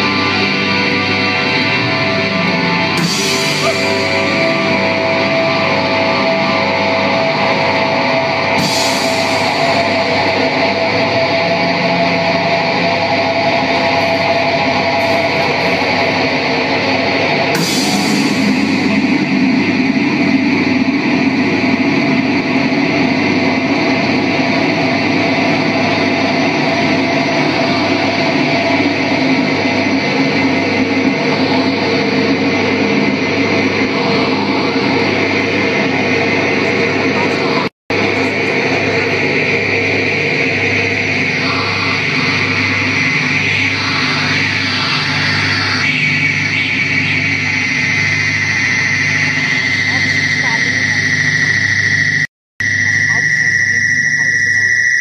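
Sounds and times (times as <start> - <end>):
drum kit: 0.0 - 46.0
electric guitars: 0.0 - 51.6
cymbal crashes: 0.0 - 51.8.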